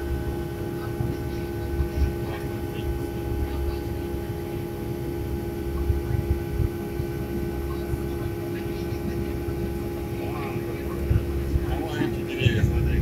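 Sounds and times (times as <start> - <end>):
jet engines droning in cabin: 0.0 - 13.0.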